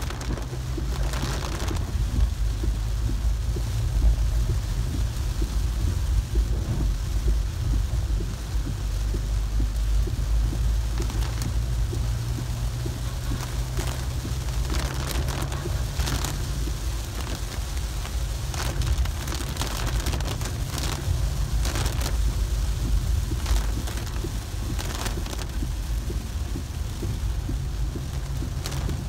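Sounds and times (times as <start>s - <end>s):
engine and tyres rumbling: 0.0s - 29.0s
rain hissing: 0.0s - 29.0s
windscreen wipers swishing: 0.0s - 29.0s.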